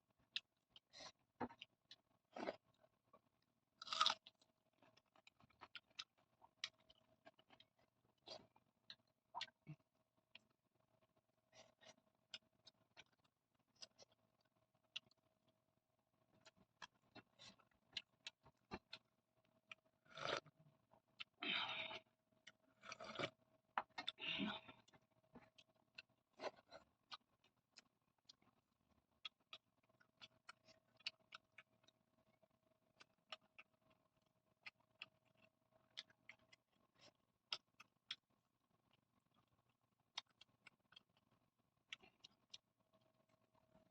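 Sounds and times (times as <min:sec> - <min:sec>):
faint steady hum: 0:00.0 - 0:43.9
close-miked chewing and mouth sounds: 0:00.2 - 0:15.6, 0:16.2 - 0:43.9.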